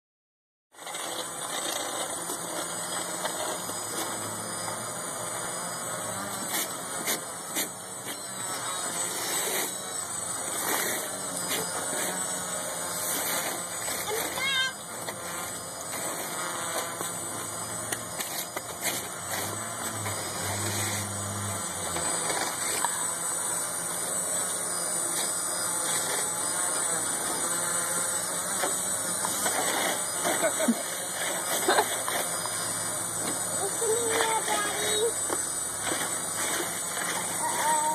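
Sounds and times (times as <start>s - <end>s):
quadcopter propellers whirring: 0.8s - 37.9s.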